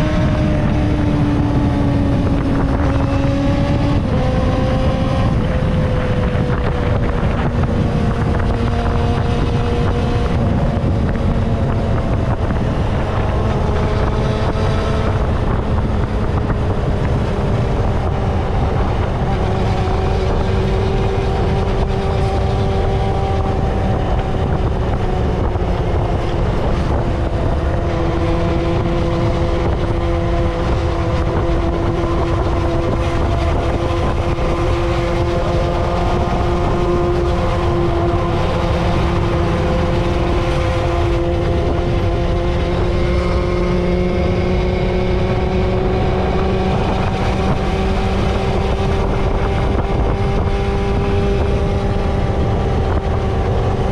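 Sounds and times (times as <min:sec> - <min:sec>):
wind rumble: 0:00.0 - 0:53.9.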